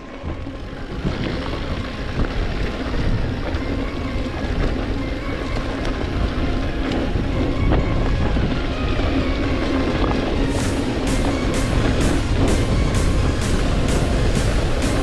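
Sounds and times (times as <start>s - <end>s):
bike rattling: 0.0s - 15.0s
bike tyres rolling on dirt: 0.0s - 15.0s
wind buffeting microphone: 0.0s - 15.0s.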